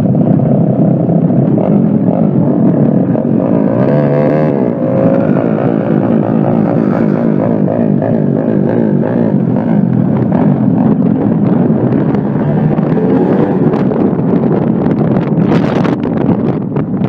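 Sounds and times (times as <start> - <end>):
small motorbike engines revving: 0.0 - 17.0.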